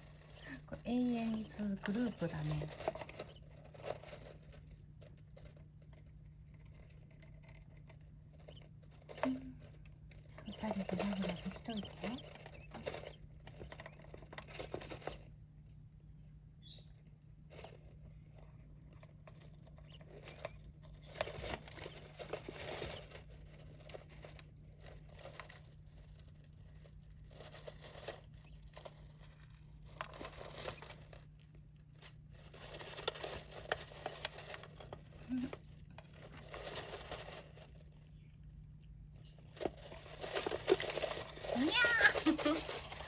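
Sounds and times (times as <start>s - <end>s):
birds rustling in cage: 0.0s - 43.0s
steady low hum: 0.0s - 43.0s.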